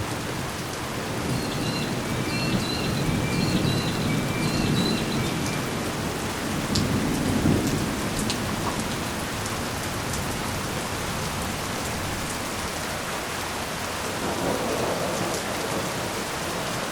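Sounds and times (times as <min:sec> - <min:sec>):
heavy rain falling: 0:00.0 - 0:16.9
low wind: 0:00.0 - 0:16.9
raindrops ticking close by: 0:00.0 - 0:16.9.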